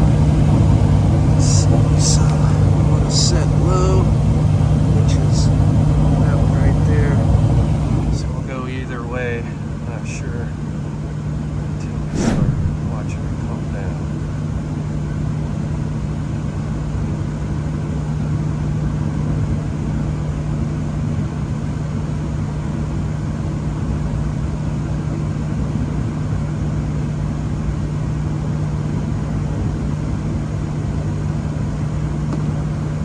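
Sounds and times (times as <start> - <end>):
heating unit mechanical hum: 0.0 - 33.0.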